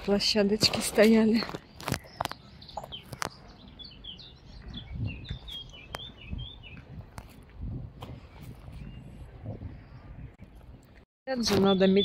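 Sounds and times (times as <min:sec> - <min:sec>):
songbird high chirps: 0:01.2 - 0:07.1, 0:08.2 - 0:12.0.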